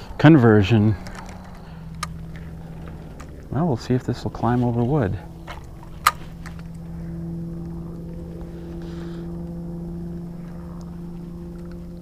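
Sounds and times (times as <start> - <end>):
distant engine hum: 0.0 - 12.0.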